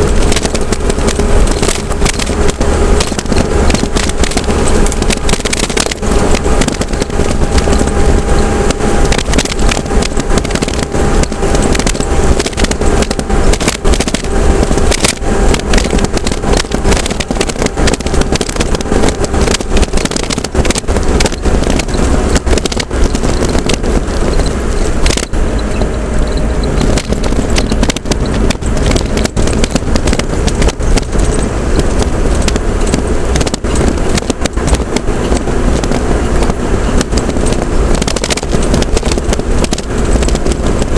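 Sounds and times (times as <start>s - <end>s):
crackling and rattling: 0.0s - 40.9s
vehicle engine rumbling: 0.0s - 40.9s.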